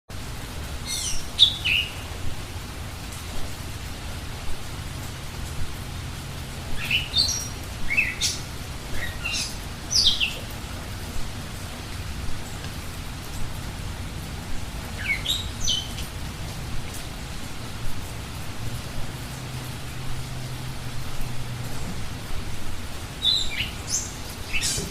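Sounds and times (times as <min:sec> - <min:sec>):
steady rain: 0:00.1 - 0:24.9
birds chirping: 0:00.4 - 0:17.2, 0:21.7 - 0:24.9.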